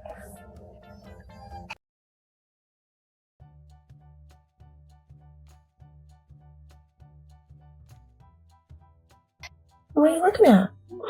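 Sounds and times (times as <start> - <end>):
background music: 0.0 - 1.8, 3.4 - 11.0.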